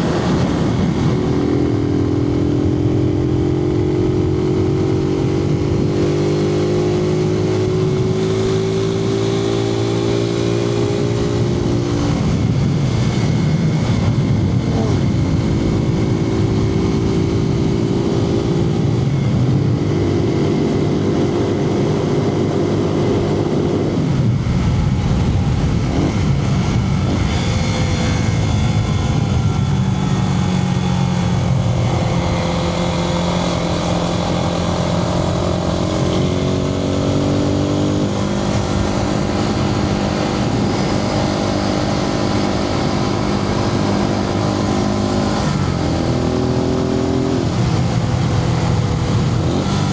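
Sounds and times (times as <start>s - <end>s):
motorcycle engine running: 0.0s - 49.9s
road noise: 0.0s - 49.9s
wind noise: 0.0s - 49.9s.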